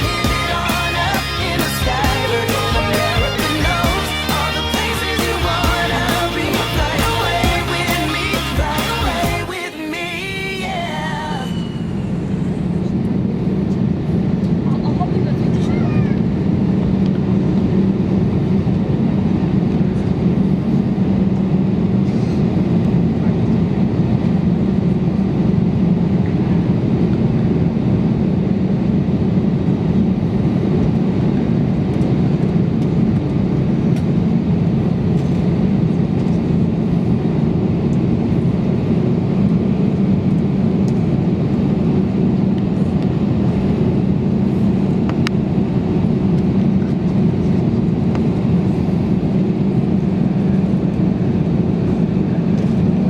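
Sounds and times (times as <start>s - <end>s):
airplane cabin engine drone: 0.0s - 53.0s.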